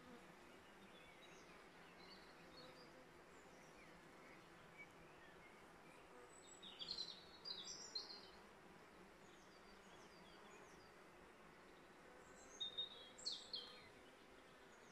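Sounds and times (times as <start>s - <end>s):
songbird chirping: 0.4s - 8.4s, 9.2s - 14.9s.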